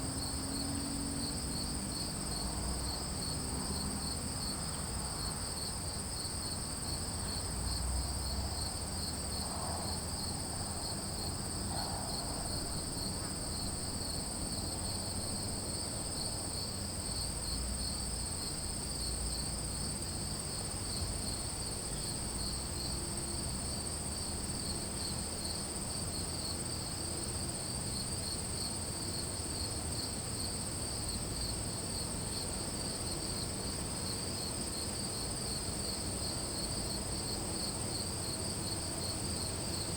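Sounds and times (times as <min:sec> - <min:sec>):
crickets trilling: 0:00.1 - 0:39.9.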